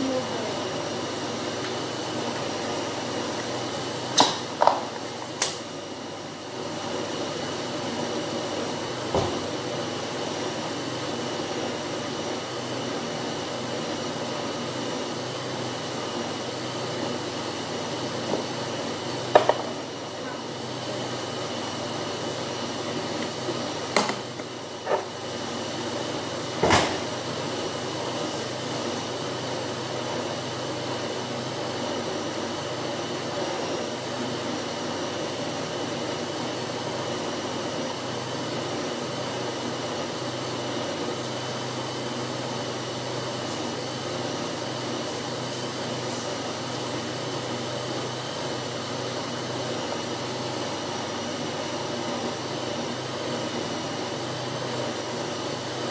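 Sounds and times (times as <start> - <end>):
appliance hum: 0.0 - 55.9.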